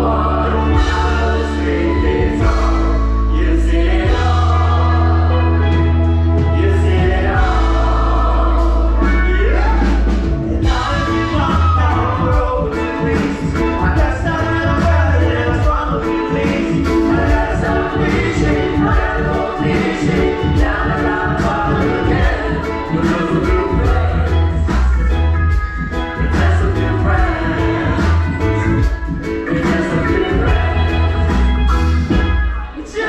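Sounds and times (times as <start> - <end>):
live band music: 0.0 - 33.0
voices singing together: 0.0 - 33.0.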